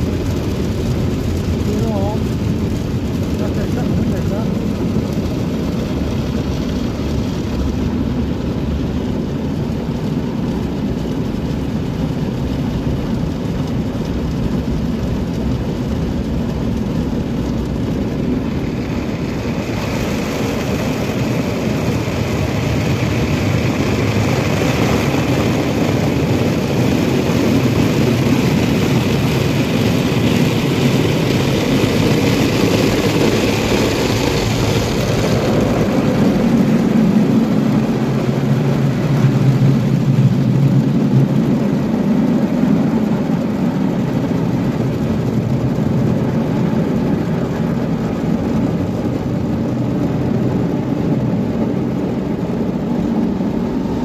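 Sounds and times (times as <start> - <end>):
water spraying on car: 0.0 - 54.0.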